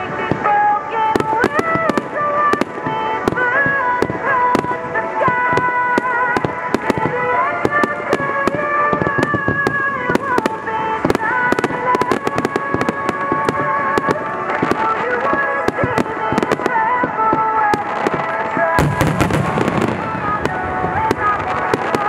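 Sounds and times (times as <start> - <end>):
fireworks bangs and crackles: 0.0 - 22.0
music with held notes: 0.0 - 22.0.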